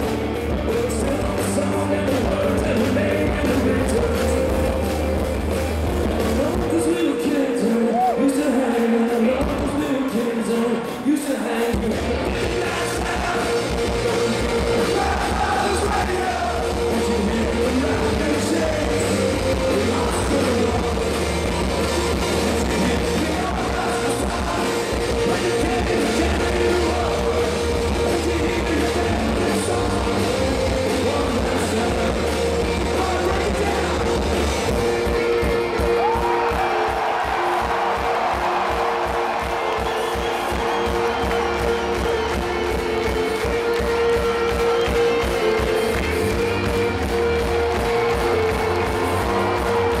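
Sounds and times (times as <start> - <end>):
man singing lead: 0.0 - 5.0, 6.2 - 50.0
rock band playing: 0.0 - 50.0.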